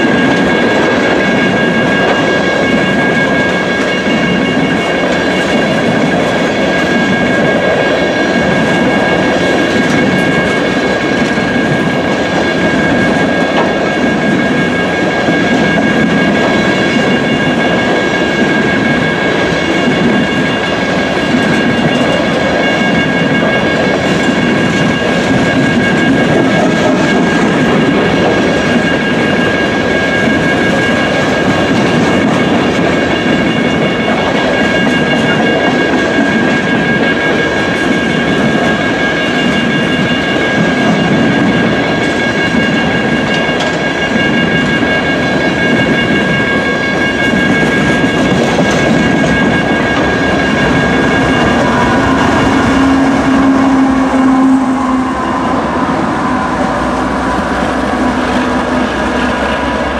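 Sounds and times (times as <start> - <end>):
high-pitched ringing tone: 0.0 - 59.9
train wheels rumbling on rails: 0.0 - 59.9.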